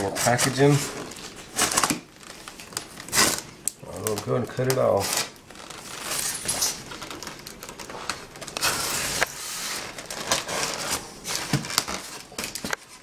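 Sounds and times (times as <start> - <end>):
foam packing pieces scraping: 0.0 - 13.0.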